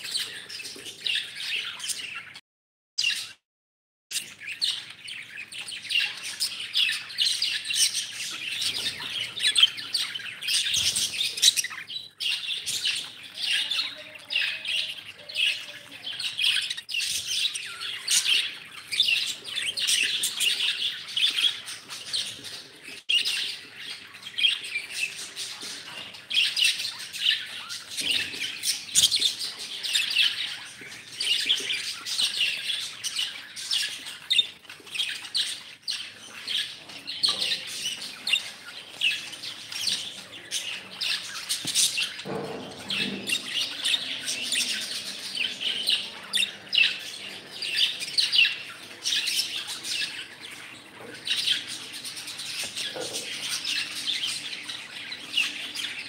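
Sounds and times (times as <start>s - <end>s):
budgerigars chattering: 4.2s - 56.0s.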